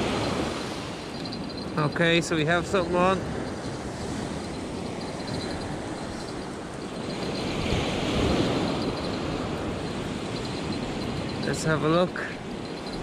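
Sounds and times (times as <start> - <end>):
surf washing on shore: 0.0 - 13.0
wind on microphone: 0.0 - 13.0.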